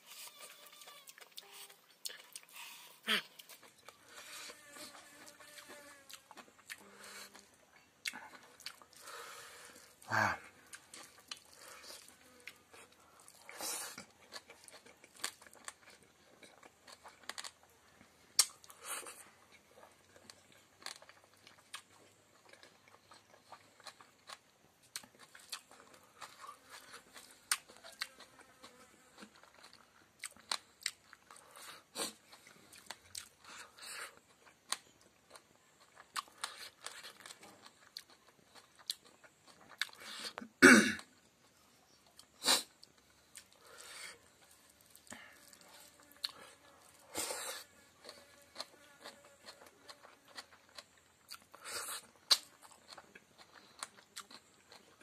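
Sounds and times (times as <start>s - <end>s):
person chewing and crunching: 0.0s - 55.0s.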